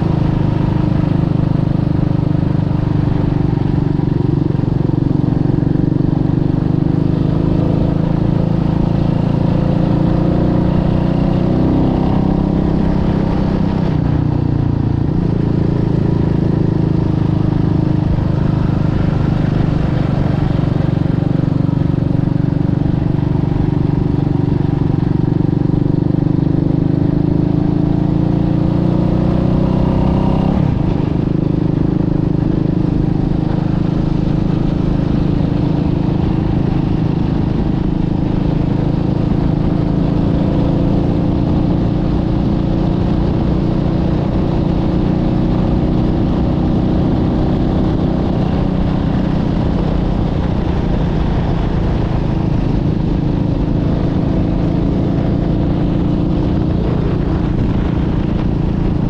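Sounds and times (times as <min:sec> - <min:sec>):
motorcycle engine running: 0:00.0 - 0:59.0
wind and road noise rumble: 0:00.0 - 0:59.0.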